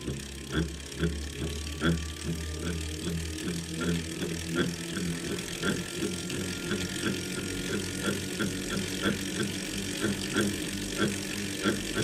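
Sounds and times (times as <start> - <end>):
machine humming: 0.0 - 12.0
rhythmic grinding click: 0.0 - 12.0.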